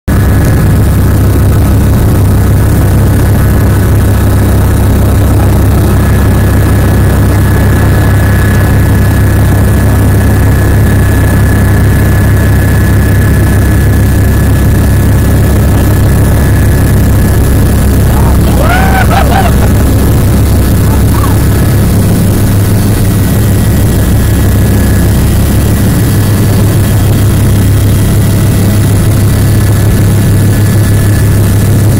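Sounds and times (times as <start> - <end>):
helicopter engine and rotor drone: 0.1 - 31.9.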